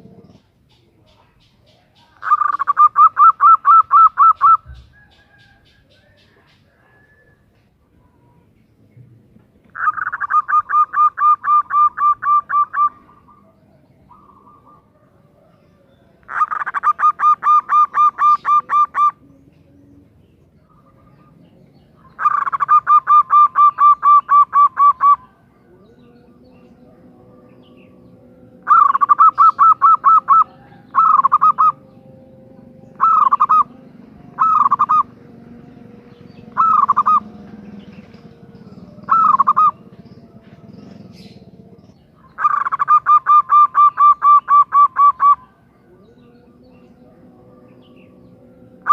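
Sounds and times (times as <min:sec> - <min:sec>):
dove calling: 0:00.0 - 0:48.9.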